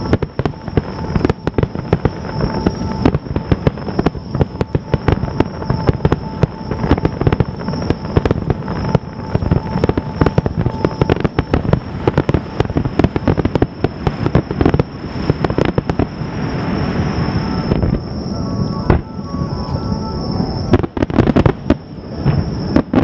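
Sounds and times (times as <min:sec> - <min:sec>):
fireworks barrage: 0:00.0 - 0:23.0.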